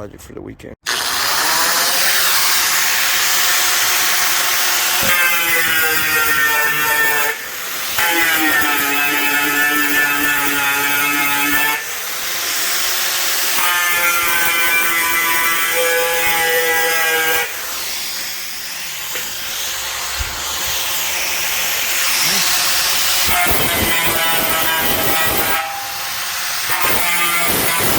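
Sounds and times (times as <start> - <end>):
angle grinder whining on steel: 0.9 - 27.9.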